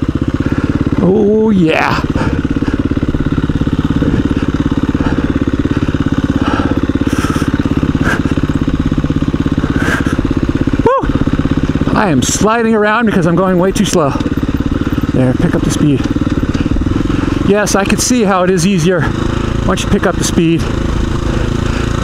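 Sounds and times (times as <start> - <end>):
dirt bike engine running at low revs: 0.0 - 22.0.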